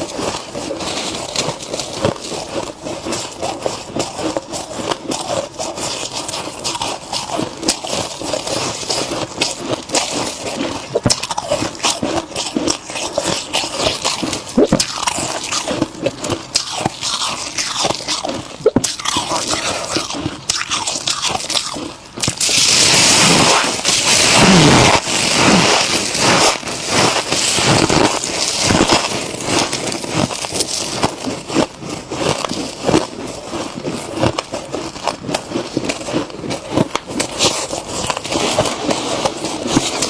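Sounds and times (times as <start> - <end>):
crunching and chewing frost: 0.0 - 40.0.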